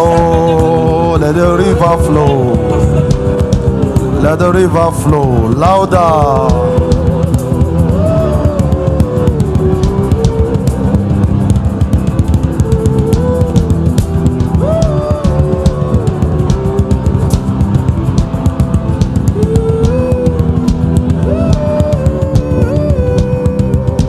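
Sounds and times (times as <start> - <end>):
fast drum kit beat: 0.0 - 24.0
sliding melodic lead line: 0.0 - 24.0.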